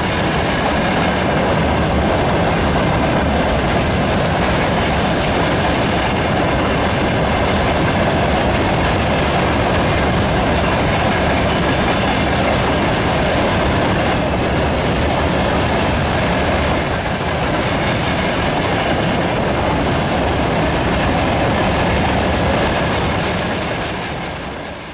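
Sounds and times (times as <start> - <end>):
freight train rumbling past: 0.0 - 24.9.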